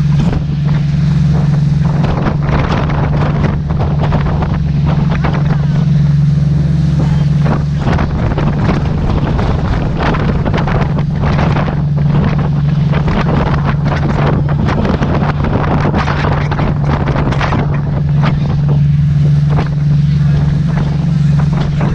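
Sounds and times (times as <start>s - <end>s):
boat engine droning: 0.0s - 21.9s
wind buffeting microphone: 0.0s - 21.9s.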